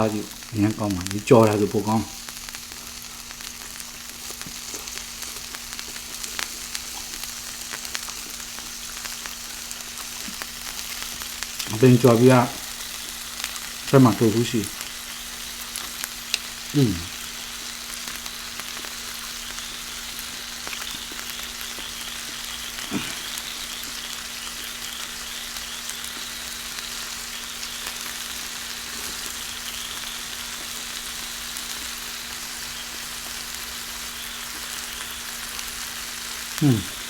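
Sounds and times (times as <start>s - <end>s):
crackling hiss: 0.0s - 37.0s.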